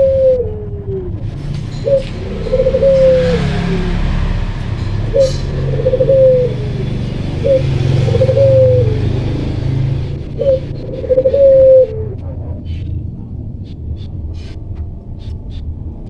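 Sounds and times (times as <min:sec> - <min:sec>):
dove cooing: 0:00.0 - 0:04.3, 0:05.0 - 0:13.6
steady low rumble: 0:00.0 - 0:16.0.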